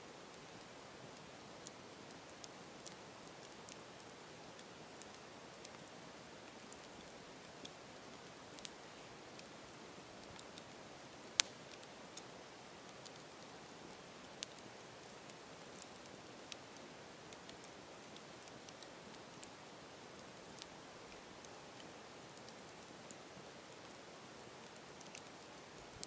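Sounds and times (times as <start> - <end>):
campfire hissing: 0.1 - 26.0
fire crackling and popping: 0.3 - 26.0.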